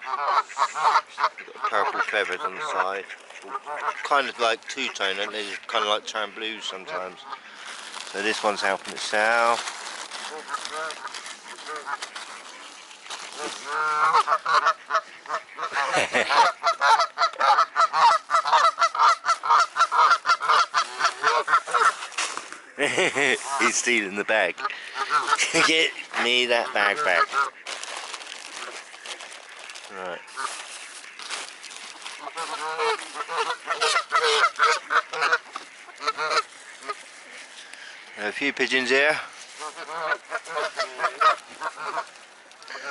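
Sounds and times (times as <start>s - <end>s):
waterfowl honking: 0.0s - 42.9s.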